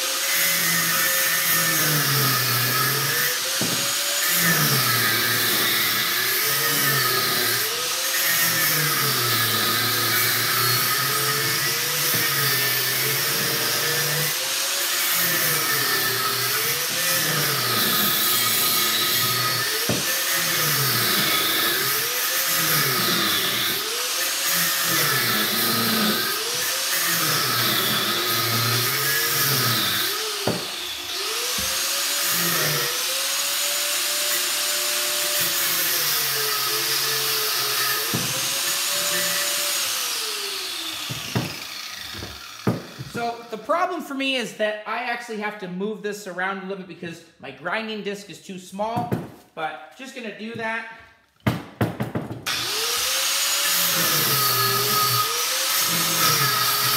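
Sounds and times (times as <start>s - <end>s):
angle grinder cutting metal: 0.0s - 43.6s, 52.4s - 56.9s.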